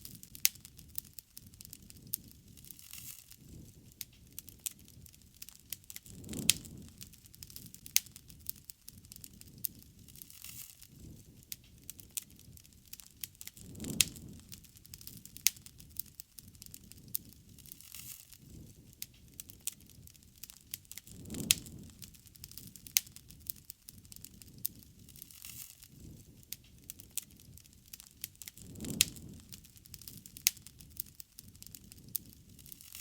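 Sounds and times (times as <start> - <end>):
bonfire crackling and popping: 0.0 - 33.0
low rush of flame: 0.0 - 33.0.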